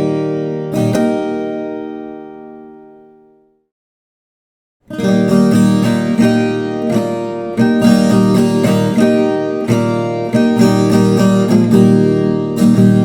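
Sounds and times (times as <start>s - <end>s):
guitar strumming chords: 0.0s - 3.6s, 4.9s - 13.0s.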